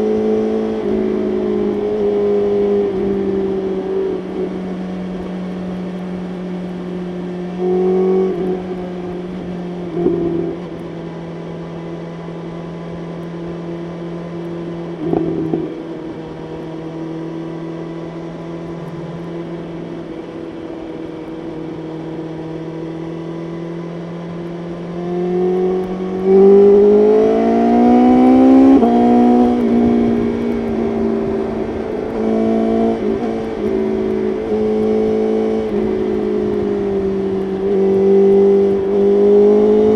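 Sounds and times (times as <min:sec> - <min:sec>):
gear change: 0:00.0 - 0:39.9
motorcycle engine: 0:00.0 - 0:39.9.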